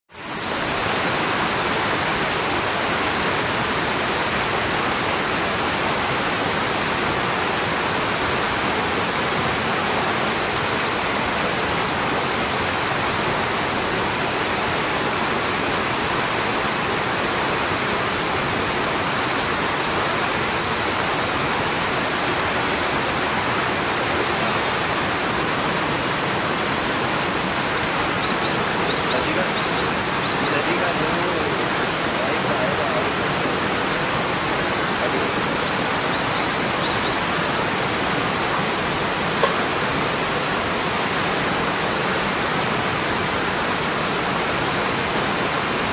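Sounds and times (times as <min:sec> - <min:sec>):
river rushing over rocks: 0:00.1 - 0:45.9.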